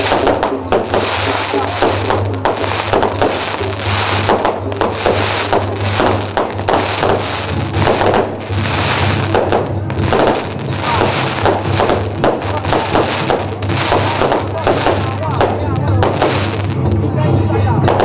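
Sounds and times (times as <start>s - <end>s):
firecrackers crackling: 0.0s - 18.0s
music: 0.0s - 18.0s.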